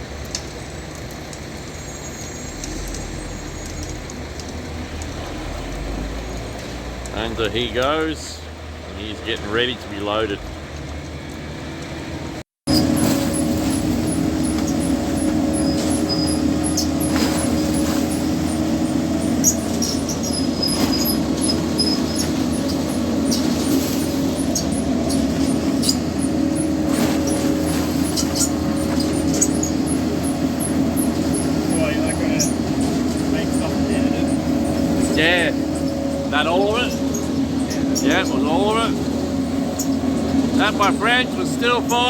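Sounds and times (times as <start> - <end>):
steady machinery drone: 0.0 - 42.0.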